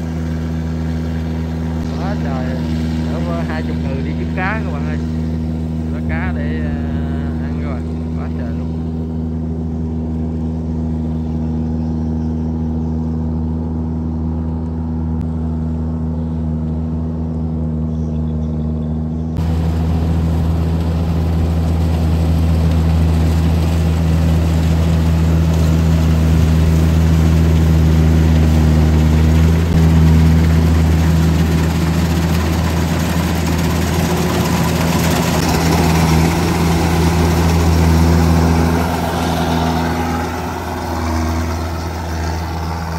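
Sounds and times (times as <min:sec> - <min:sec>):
combine harvester diesel engine drone: 0:00.0 - 0:42.9.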